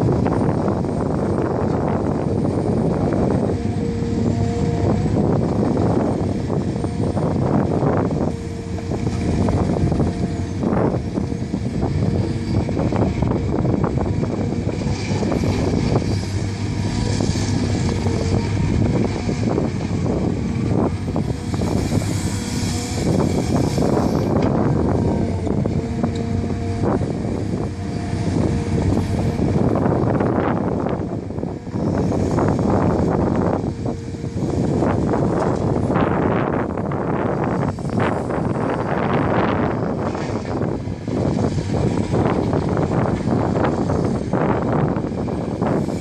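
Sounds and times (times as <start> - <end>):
excavator diesel engine working: 0.0 - 46.0.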